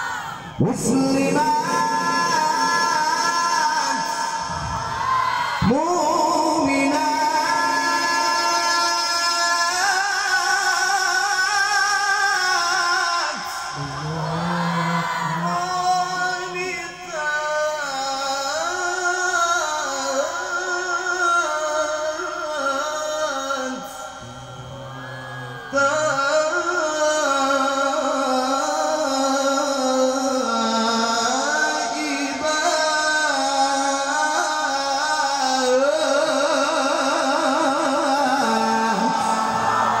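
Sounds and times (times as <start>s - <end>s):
man chanting into a microphone: 0.0s - 40.0s.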